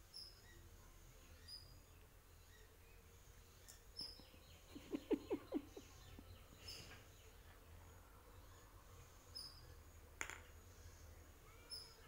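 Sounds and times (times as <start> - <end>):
faint bird chirps: 0.0 - 9.8, 10.7 - 12.0.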